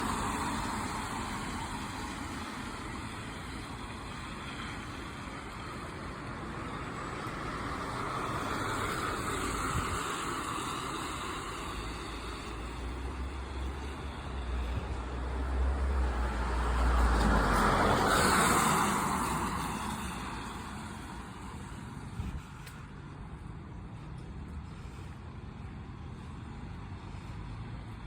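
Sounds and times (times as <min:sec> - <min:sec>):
tyres on wet road: 0:00.0 - 0:28.0.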